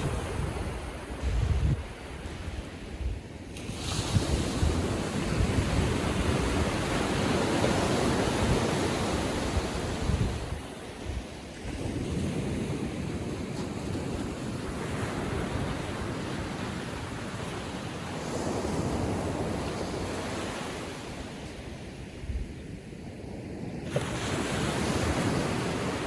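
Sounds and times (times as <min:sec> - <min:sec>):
small waves breaking on sand: 0:00.0 - 0:26.0.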